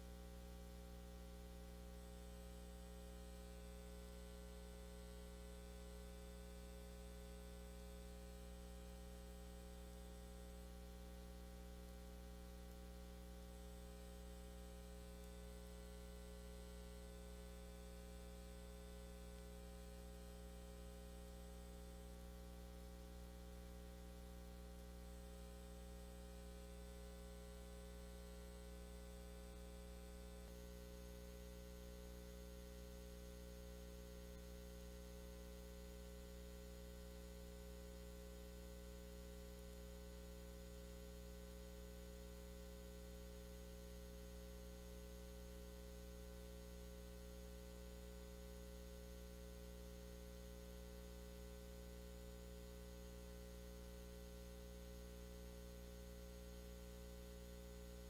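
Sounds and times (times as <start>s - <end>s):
electrical mains hum with hiss: 0.0s - 58.0s.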